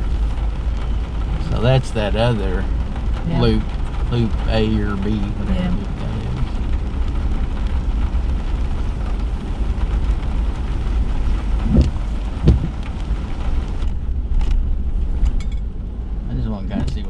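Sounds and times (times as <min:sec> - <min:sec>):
car road noise: 0:00.0 - 0:17.0
rain on car: 0:00.0 - 0:17.0.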